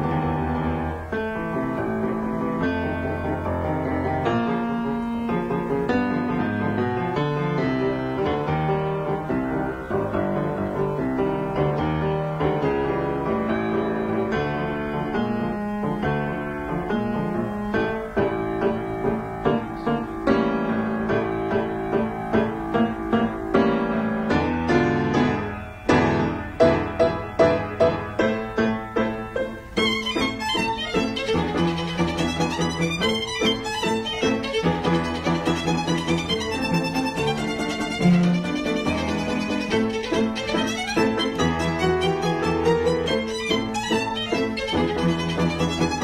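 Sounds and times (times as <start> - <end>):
solo piano music: 0.0 - 46.0.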